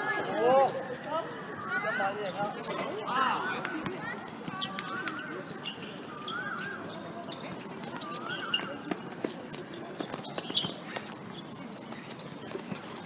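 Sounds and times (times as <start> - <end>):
shoe squeaks: 0.0 - 3.1, 4.0 - 13.0.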